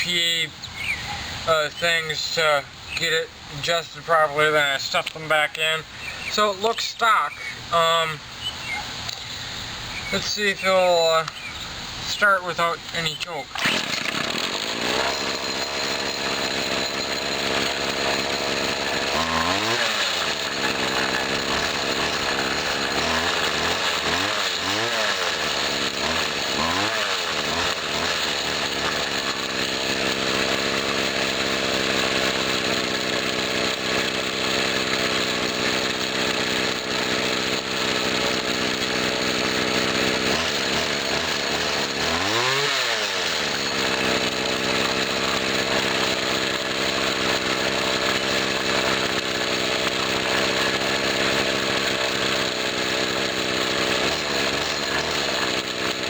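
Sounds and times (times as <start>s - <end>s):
string trimmer engine revving: 0.0s - 56.0s.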